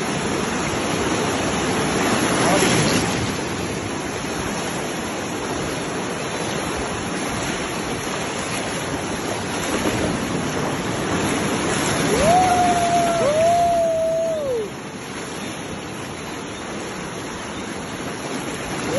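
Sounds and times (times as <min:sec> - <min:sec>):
river water rushing: 0:00.0 - 0:18.9.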